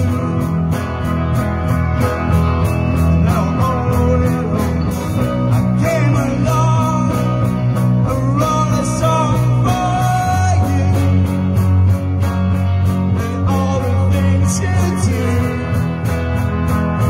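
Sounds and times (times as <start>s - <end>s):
bass: 0.0s - 17.0s
electric guitars: 0.0s - 17.0s
live rock band playing: 0.0s - 17.0s
steady drum beat: 0.0s - 17.0s.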